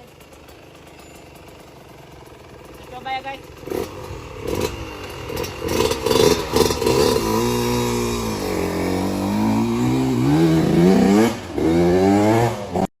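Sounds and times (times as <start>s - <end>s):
two-stroke engine revving: 0.0s - 12.9s.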